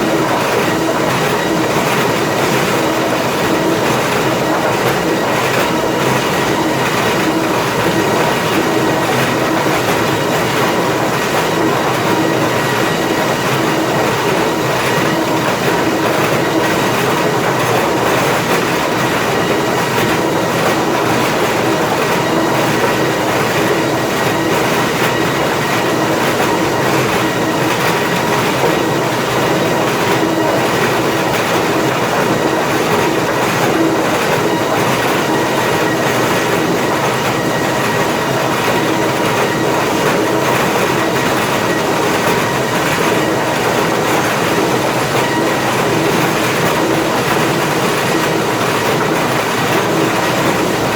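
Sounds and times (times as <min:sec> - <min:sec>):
conveyor chains and boards rattling: 0:00.0 - 0:50.9
steady machine tones: 0:00.0 - 0:50.9.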